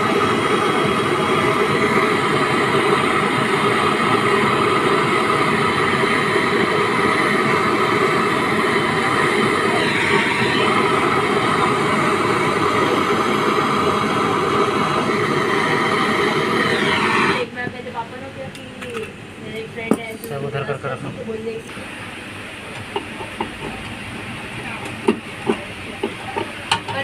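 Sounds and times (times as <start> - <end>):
torch flame hissing: 0.0 - 18.0, 20.2 - 27.0.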